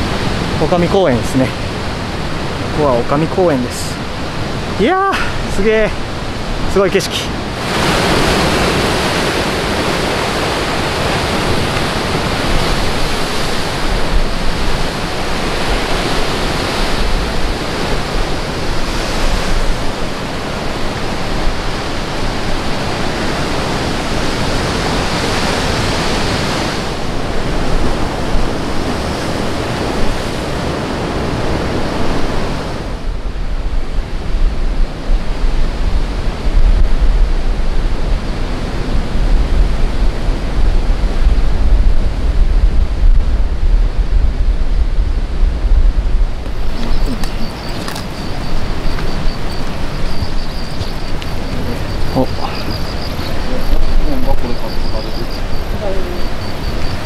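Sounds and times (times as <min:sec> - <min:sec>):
waves breaking on rocks: 0:00.0 - 0:57.0
wind buffeting the microphone: 0:00.0 - 0:57.0.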